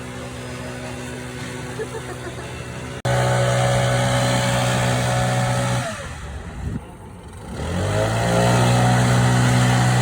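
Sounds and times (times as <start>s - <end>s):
stump grinder engine running: 0.0s - 10.0s.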